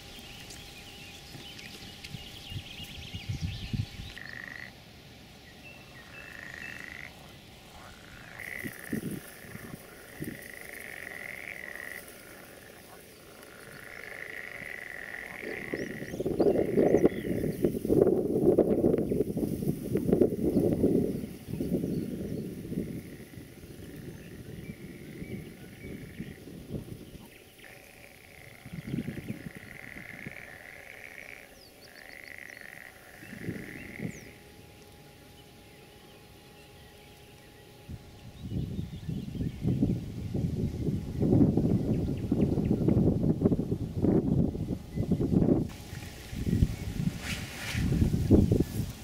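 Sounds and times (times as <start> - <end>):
frogs trilling: 0.0 - 43.4.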